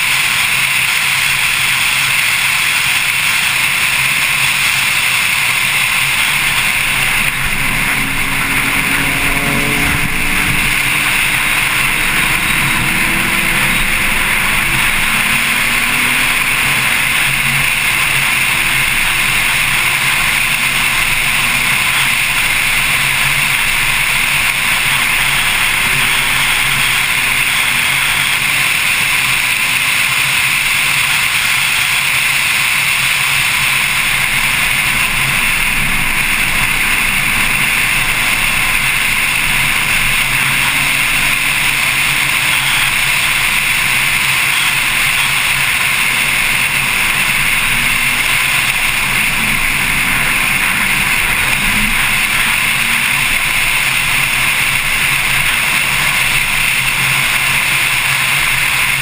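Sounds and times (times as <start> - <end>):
car engine note: 0.0 - 59.0
wind and road noise: 0.0 - 59.0.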